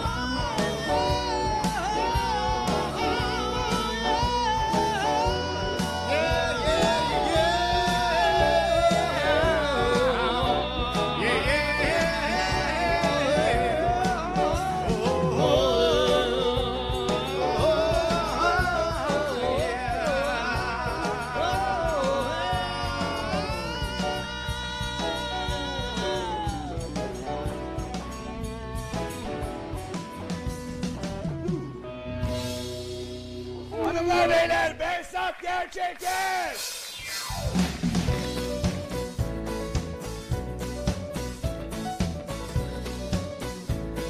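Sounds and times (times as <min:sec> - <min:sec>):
instrumental accompaniment: 0:00.0 - 0:34.3, 0:36.9 - 0:44.0.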